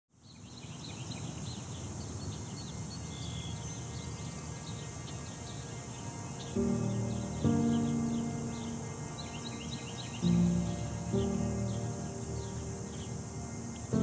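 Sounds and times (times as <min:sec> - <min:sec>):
birds chirping and trilling: 0:00.2 - 0:14.0.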